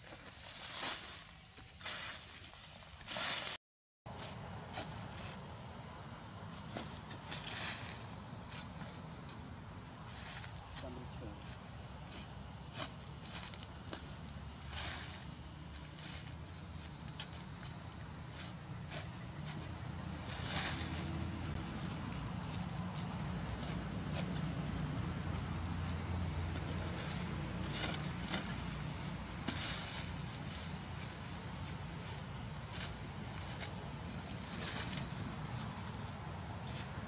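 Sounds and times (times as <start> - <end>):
insects chorus: 0.0 - 37.0.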